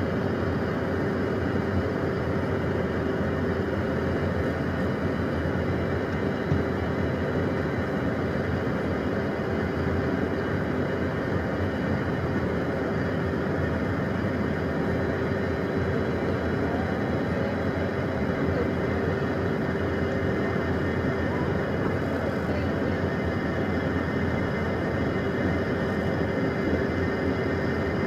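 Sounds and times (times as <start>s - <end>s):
jet cockpit drone: 0.0s - 28.0s.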